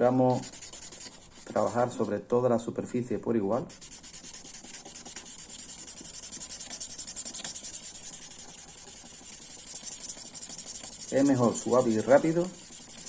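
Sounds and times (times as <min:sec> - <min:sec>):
sandpaper scratching on plastic: 0:00.0 - 0:02.2, 0:03.6 - 0:13.0.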